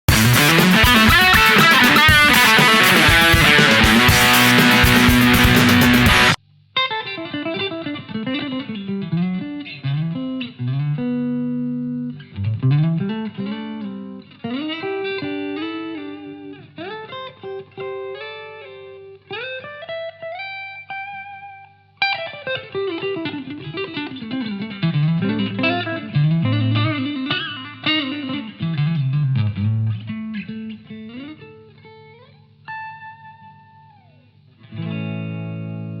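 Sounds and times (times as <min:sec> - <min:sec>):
clean electric guitar: 0:00.1 - 0:36.0.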